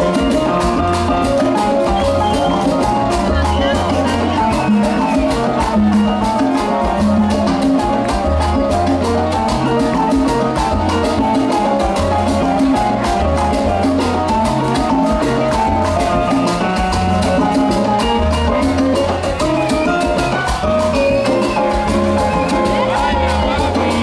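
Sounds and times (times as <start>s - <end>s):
keyboard lines: 0.0s - 24.0s
repeating bass pattern: 0.0s - 24.0s
salsa band playing: 0.0s - 24.0s
steady percussion: 0.0s - 24.0s.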